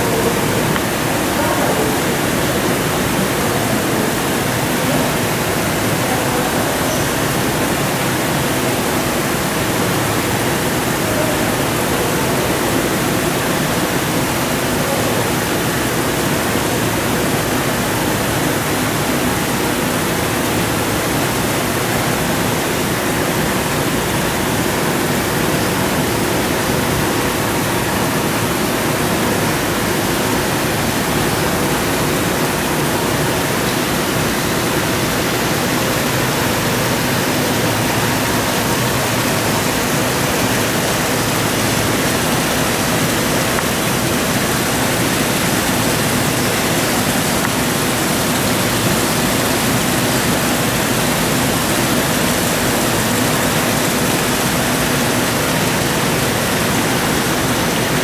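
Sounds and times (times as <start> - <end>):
falling water rushing: 0.0 - 58.0.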